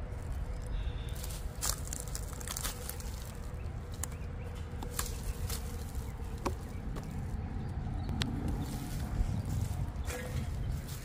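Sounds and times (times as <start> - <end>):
low rumble: 0.0 - 11.0
straw and leaves crackling: 0.0 - 11.0.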